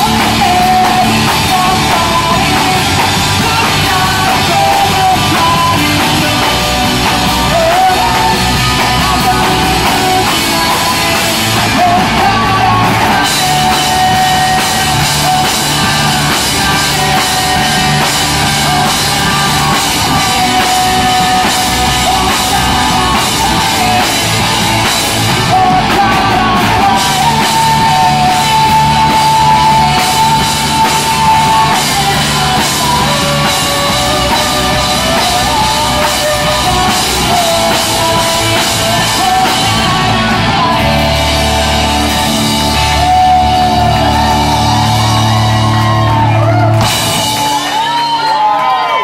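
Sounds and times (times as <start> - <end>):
electric bass: 0.0 - 47.8
drum kit: 0.0 - 49.0
electric guitar: 0.0 - 49.0
shouted singing: 0.0 - 49.0.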